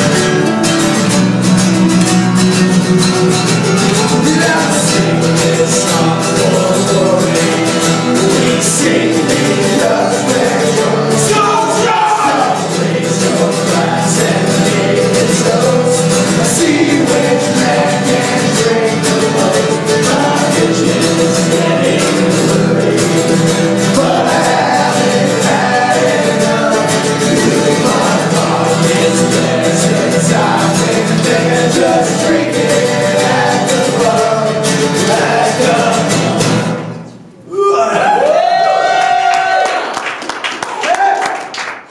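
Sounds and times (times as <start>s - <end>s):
mandolin strummed: 0.0s - 37.3s
acoustic guitars strummed: 0.0s - 37.4s
voices singing together: 1.8s - 37.2s.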